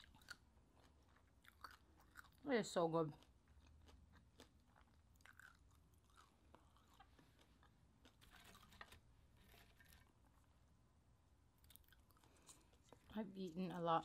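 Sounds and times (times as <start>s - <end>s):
chewing crispy food: 0.0s - 10.5s, 11.6s - 14.0s.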